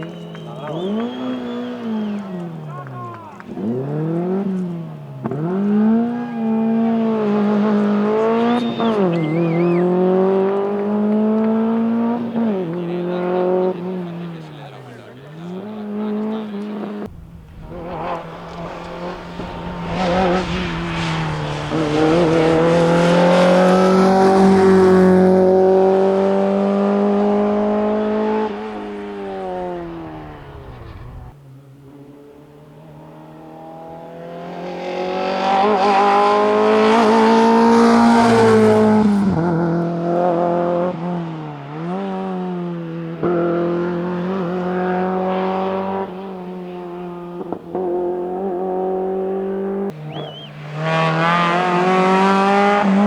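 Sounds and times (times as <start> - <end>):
rally car engine at high revs: 0.0 - 53.0.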